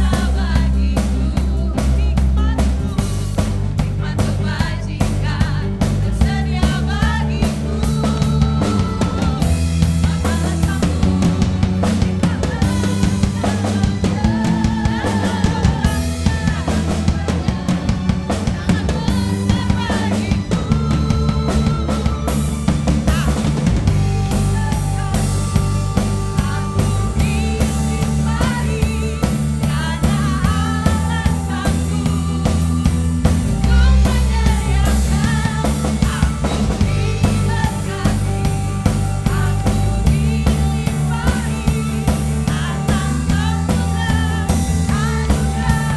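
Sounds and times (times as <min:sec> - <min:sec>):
band playing worship song: 0:00.0 - 0:45.9
bass guitar low notes: 0:00.0 - 0:45.9.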